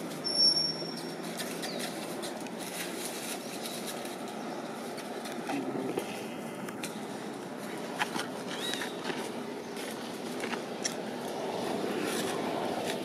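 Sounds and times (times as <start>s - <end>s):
dry leaves crackling under steps: 0.0s - 13.0s.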